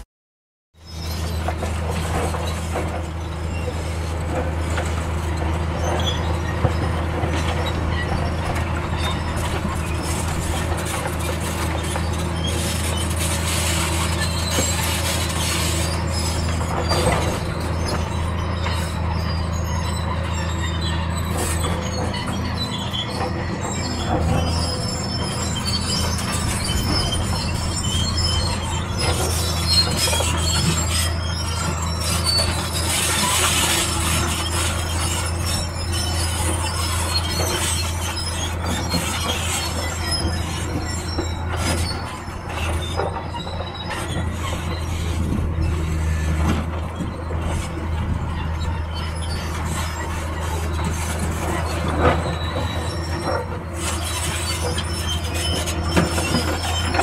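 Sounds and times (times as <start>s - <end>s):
diesel engine running: 0.8s - 57.0s
metal tracks squealing: 0.8s - 57.0s.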